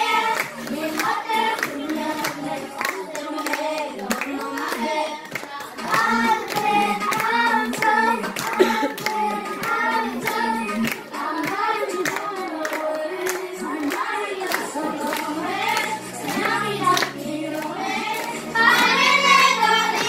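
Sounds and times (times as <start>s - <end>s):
children singing: 0.0s - 20.0s
rhythmic clapping: 0.0s - 20.0s.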